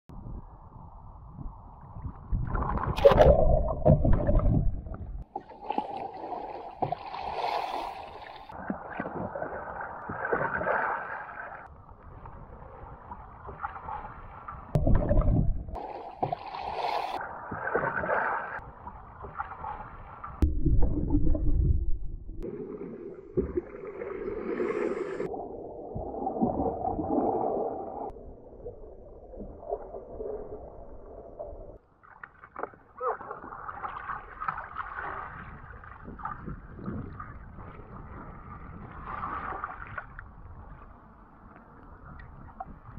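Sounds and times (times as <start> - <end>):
muffled rushes of water: 0.4 - 42.9
water splashing around kayak: 2.3 - 42.9.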